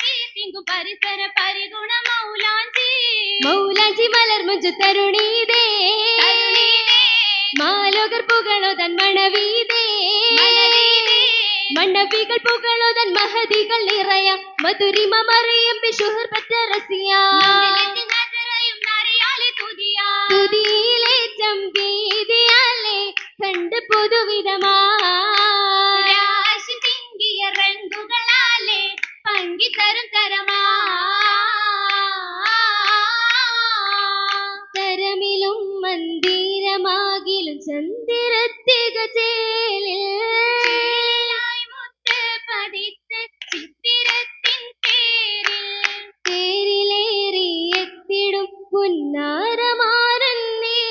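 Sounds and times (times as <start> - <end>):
rhythmic hand claps: 0.0 - 37.3, 40.4 - 46.7, 47.7 - 48.1
girls singing together: 0.0 - 48.5.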